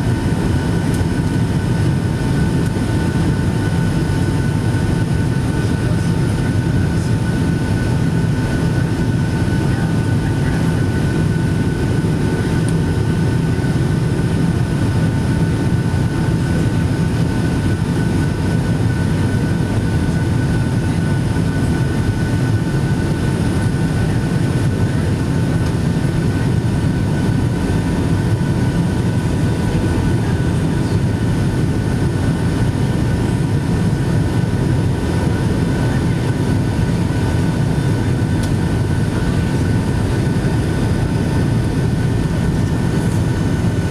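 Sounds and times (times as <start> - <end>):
aircraft cabin engine rumble: 0.0 - 43.9.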